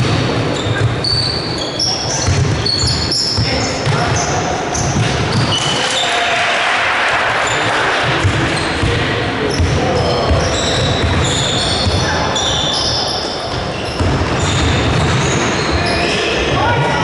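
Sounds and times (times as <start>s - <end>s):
basketball bouncing on court: 0.0s - 5.7s, 8.0s - 16.4s
sneakers squeaking: 0.0s - 6.3s, 7.4s - 17.0s
crowd noise: 0.0s - 17.0s.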